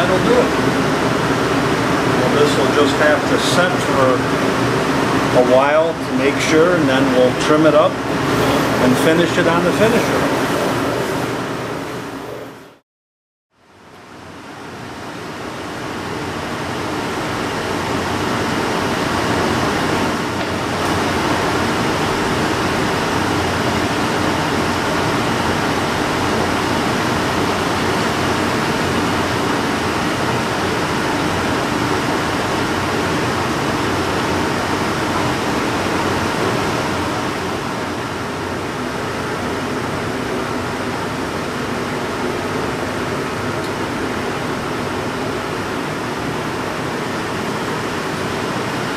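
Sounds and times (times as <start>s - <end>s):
rushing machinery noise: 0.0s - 12.8s, 16.1s - 48.9s.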